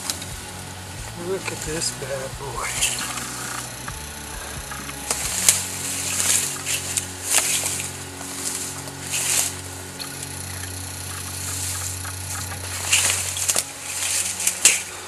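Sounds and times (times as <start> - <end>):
steady low hum: 0.0 - 15.0
rustling in dry brush: 2.6 - 15.0.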